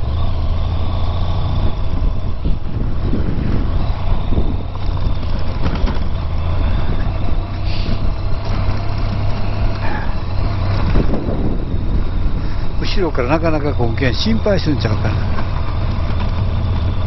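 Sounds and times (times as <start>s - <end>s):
motorcycle engine running: 0.0s - 17.0s
road noise: 0.0s - 17.0s
wind noise: 0.0s - 17.0s.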